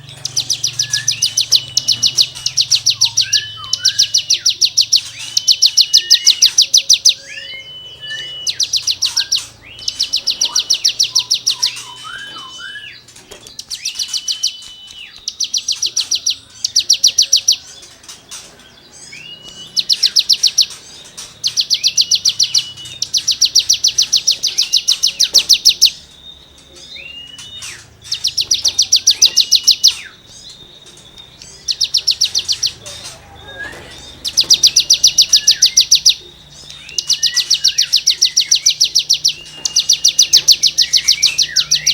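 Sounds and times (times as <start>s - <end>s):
songbird scratchy trills: 0.0s - 41.9s.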